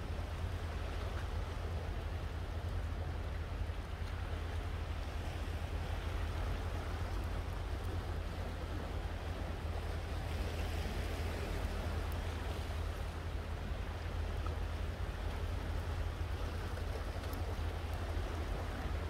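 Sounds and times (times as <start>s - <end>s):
sea water washing over rocks: 0.0s - 19.0s
wind rumble on microphone: 0.0s - 19.0s.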